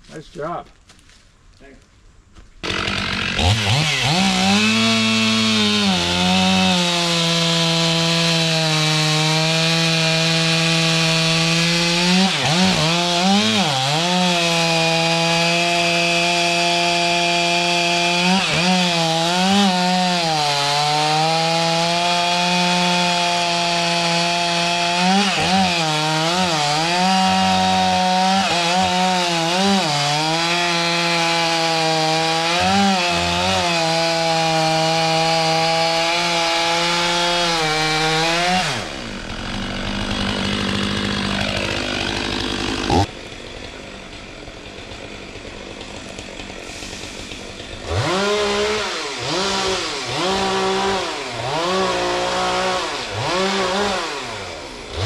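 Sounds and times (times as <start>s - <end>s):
chainsaw cutting wood: 2.5s - 55.0s.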